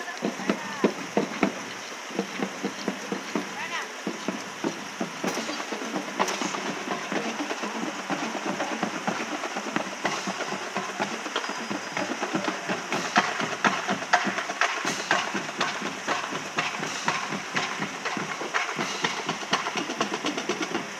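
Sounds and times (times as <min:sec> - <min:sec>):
footsteps on pavement: 0:00.0 - 0:20.9.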